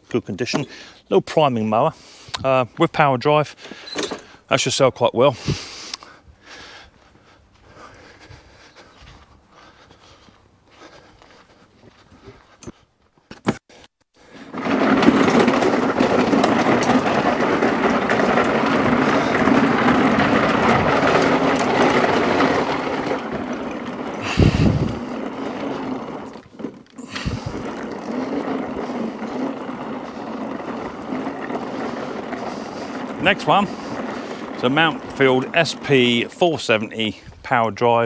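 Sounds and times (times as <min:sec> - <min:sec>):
lawnmower wheels rattling: 0:00.0 - 0:12.8, 0:14.2 - 0:38.0.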